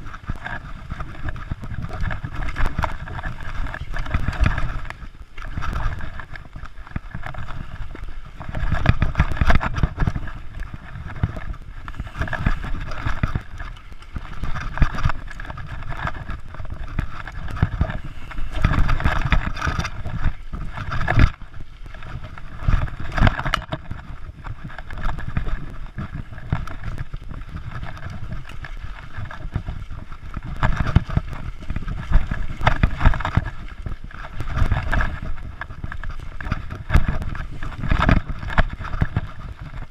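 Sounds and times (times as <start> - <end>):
mountain bike rattling: 0.0 - 39.9
wind buffeting microphone: 0.0 - 39.9.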